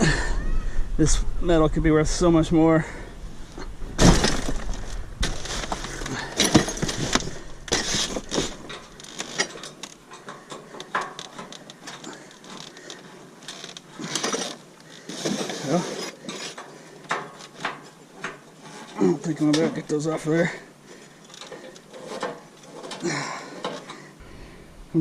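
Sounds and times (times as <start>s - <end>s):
metal parts clanking and scraping: 3.6s - 24.1s.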